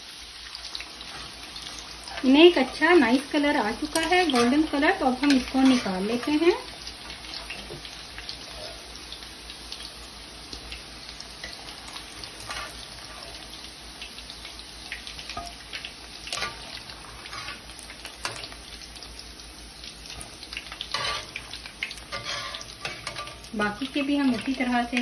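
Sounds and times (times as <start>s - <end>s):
oil sizzling and crackling: 0.0s - 25.0s.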